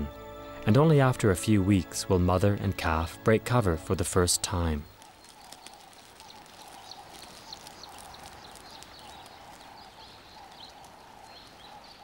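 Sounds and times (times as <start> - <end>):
small birds chirping: 1.4 - 12.0.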